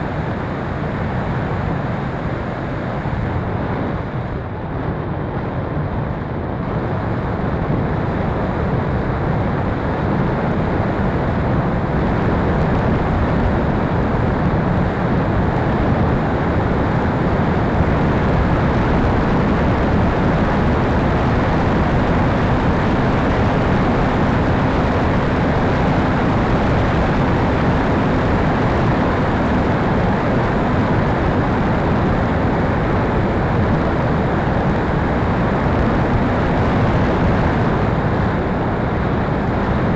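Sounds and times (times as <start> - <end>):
faint steady hum: 0.0 - 39.9
wind rushing on microphone: 0.0 - 39.9.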